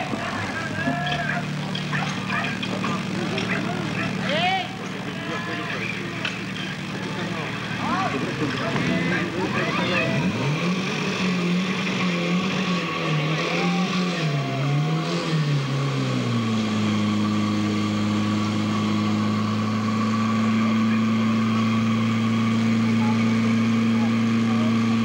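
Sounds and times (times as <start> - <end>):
fire pump engine running hard: 0.0 - 25.0.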